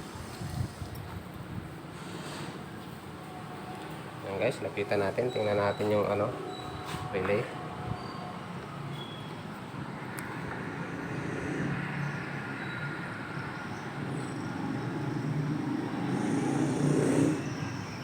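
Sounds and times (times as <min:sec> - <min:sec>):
motor vehicle traffic passing: 0:00.0 - 0:18.0.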